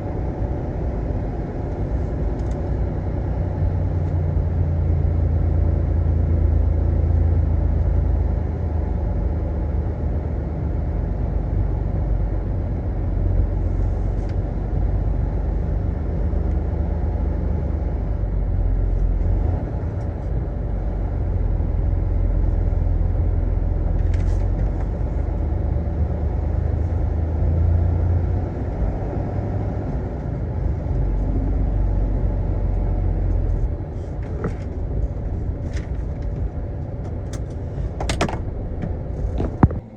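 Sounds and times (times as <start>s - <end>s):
road rumble: 0.0s - 39.9s
truck engine running: 0.0s - 39.9s.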